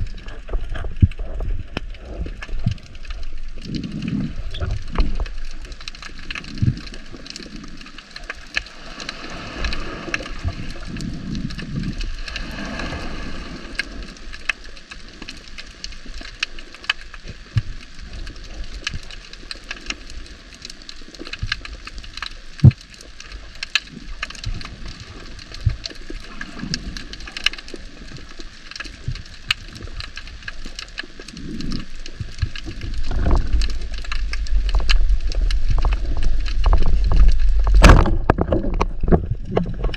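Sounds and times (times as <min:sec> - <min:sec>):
low rumble of water: 0:00.0 - 0:39.9
low water movement: 0:00.0 - 0:39.9
underwater crackle of clicks: 0:00.0 - 0:39.9.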